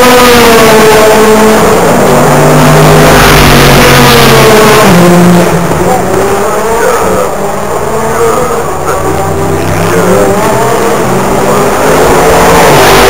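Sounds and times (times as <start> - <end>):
race car engines at speed: 0.0 - 13.0.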